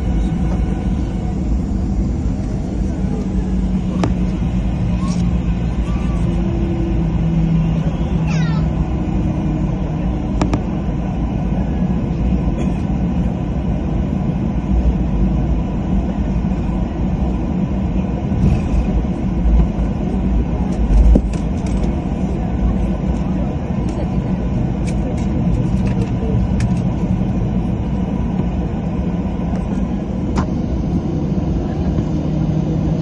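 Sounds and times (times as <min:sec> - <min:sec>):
aircraft cabin rumble: 0:00.0 - 0:33.0.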